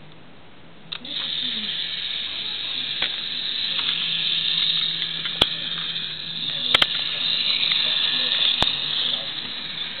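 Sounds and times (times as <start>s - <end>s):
toy train motor whirring: 0.9s - 10.0s.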